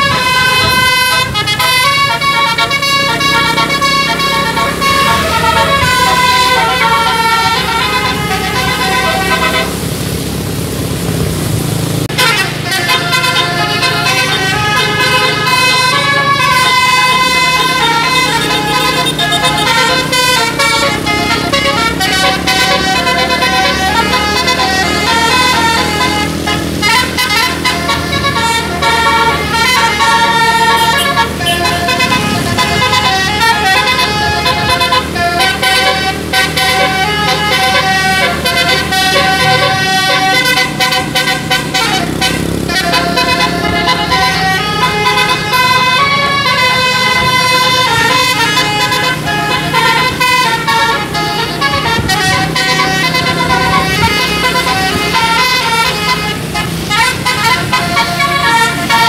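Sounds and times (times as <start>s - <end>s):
musical air horn melody: 0.0s - 10.2s, 12.0s - 59.0s
low engine drone: 0.0s - 59.0s.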